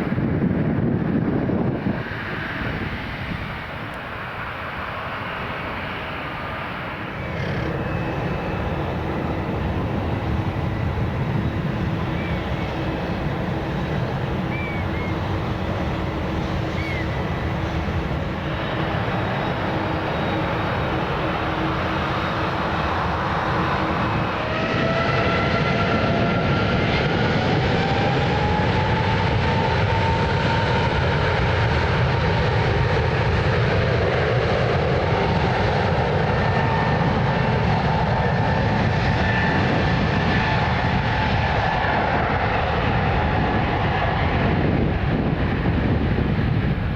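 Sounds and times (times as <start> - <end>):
jet airliner engines at takeoff: 0.0 - 46.9
whining jet fan tones: 0.0 - 46.9.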